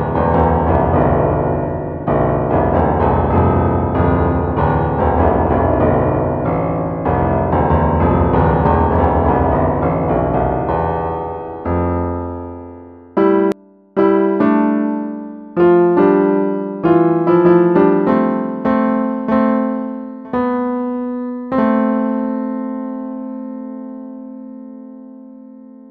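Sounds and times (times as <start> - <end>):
synthesized piano chords and notes: 0.0 - 25.9.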